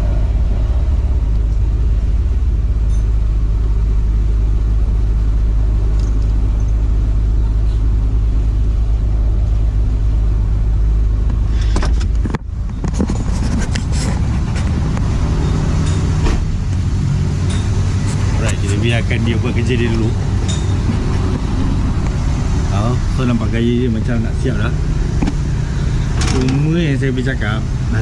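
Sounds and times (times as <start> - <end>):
small car engine idling: 0.0 - 28.0.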